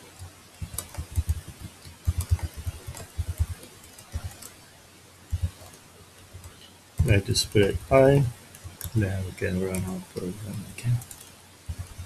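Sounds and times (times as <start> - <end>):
computer keyboard typing: 0.2 - 4.6, 5.3 - 5.8, 6.4 - 12.0.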